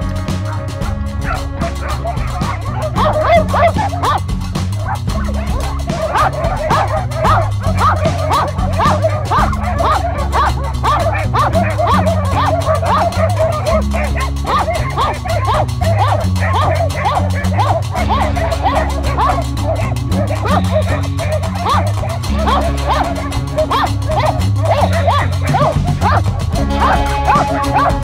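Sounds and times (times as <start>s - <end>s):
background music with low bass: 0.0s - 28.0s
dogs barking: 0.0s - 28.0s.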